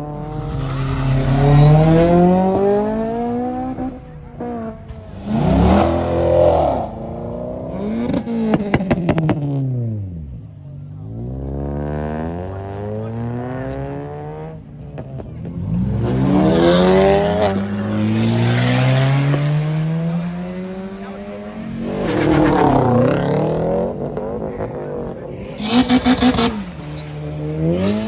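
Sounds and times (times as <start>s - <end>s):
car engines revving and accelerating: 0.0s - 28.0s.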